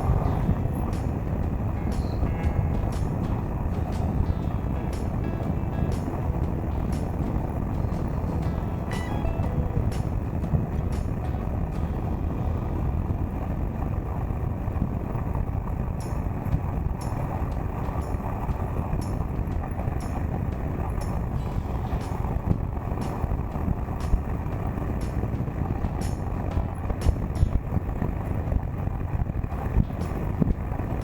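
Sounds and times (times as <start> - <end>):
motorcycle engine: 0.0 - 31.0
wind and road noise: 0.0 - 31.0.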